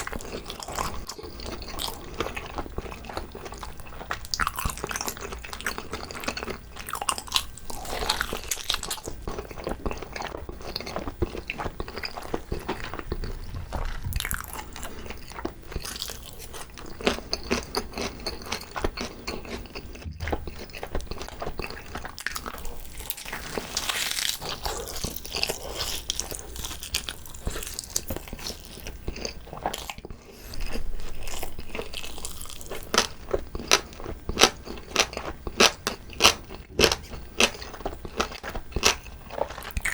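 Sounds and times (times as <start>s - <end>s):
biting and chewing: 0.0s - 39.9s.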